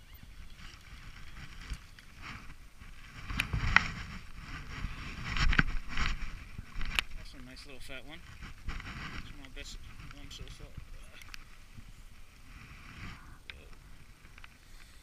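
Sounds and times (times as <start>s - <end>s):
wind rumbling on microphone: 0.0s - 15.0s
handling rustle on microphone: 0.1s - 15.0s.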